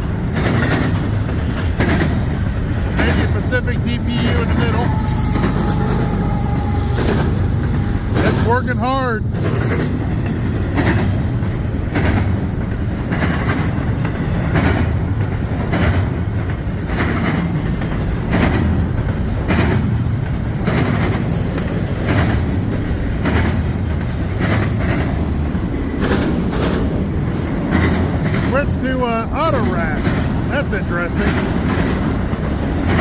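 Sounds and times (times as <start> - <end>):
train wheels rumbling on rail: 0.0 - 33.0
wheels clacking over rail joint: 0.0 - 33.0.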